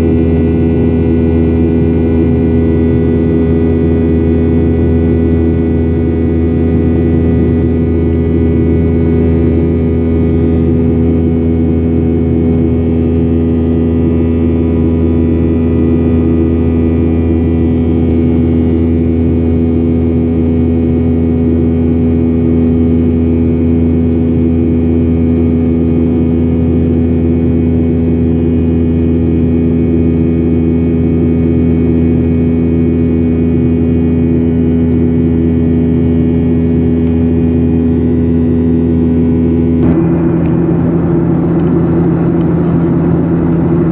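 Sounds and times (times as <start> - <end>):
jet engine drone in cabin: 0.0 - 43.9.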